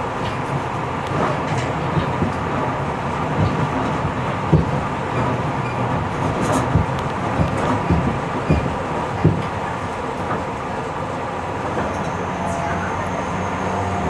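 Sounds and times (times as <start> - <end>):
train rolling rumble inside car: 0.0 - 14.0.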